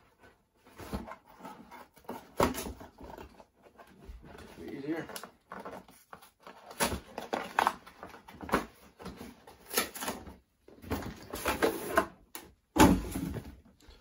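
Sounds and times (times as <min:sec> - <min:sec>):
cardboard and paper rustling: 0:00.0 - 0:14.0.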